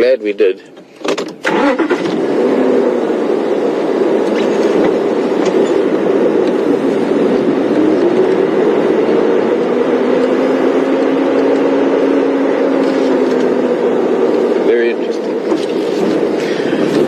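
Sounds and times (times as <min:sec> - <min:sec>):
road rumble: 0:00.0 - 0:17.0
vehicle engine droning: 0:01.4 - 0:17.0.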